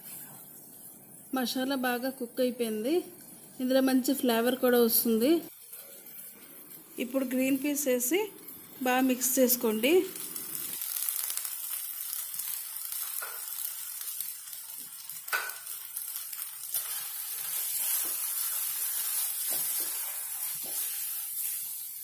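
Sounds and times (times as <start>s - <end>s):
paste sizzling in a pan: 0.0s - 22.0s.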